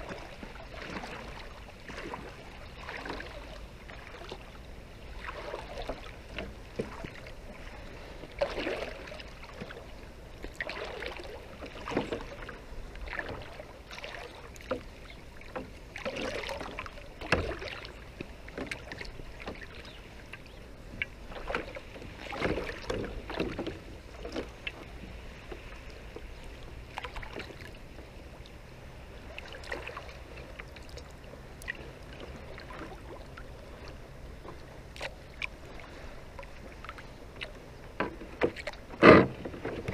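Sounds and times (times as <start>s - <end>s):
sea water splashing: 0.0s - 39.9s.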